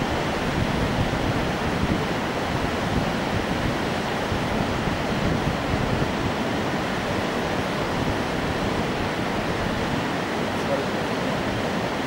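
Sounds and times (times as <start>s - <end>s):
river water rushing through rapids: 0.0s - 12.0s.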